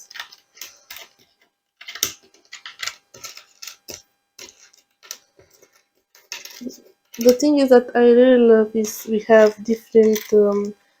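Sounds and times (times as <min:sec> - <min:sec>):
wooden puzzle pieces clicking: 0:00.0 - 0:07.4, 0:08.8 - 0:10.7.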